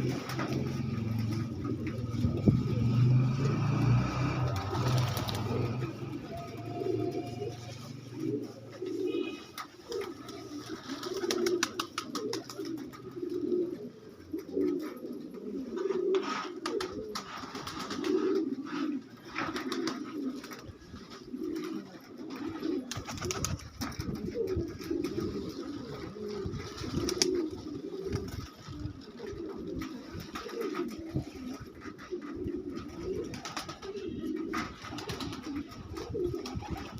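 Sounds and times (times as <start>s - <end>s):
pigeons cooing: 0.0s - 36.9s.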